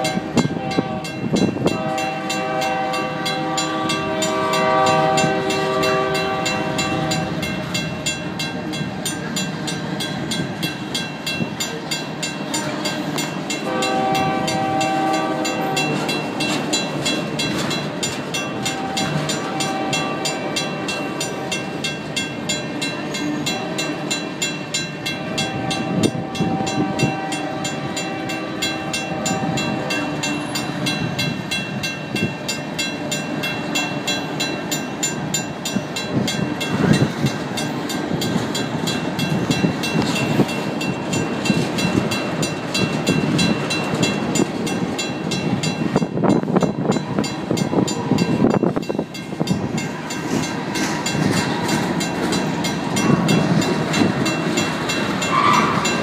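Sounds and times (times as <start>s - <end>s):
crossing bell ringing: 0.0s - 56.0s
freight cars rumbling on rails: 0.0s - 56.0s.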